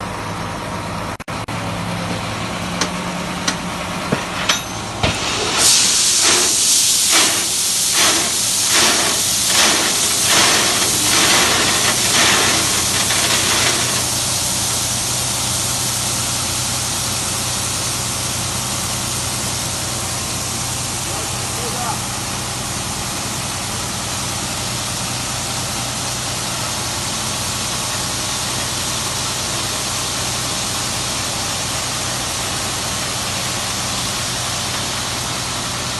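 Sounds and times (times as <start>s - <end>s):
diesel engine humming: 0.0s - 35.9s
loud pulsing hiss: 5.0s - 35.9s.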